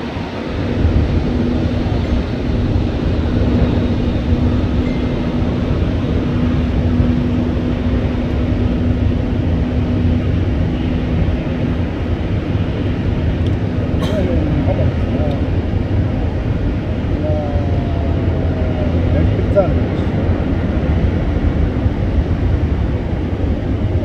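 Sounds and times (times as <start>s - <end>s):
airliner and tug rumble: 0.0s - 24.0s
steady hum: 0.0s - 24.0s.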